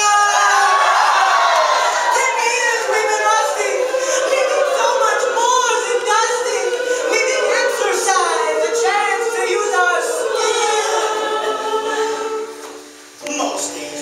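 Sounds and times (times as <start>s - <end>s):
ensemble singing: 0.0s - 14.0s.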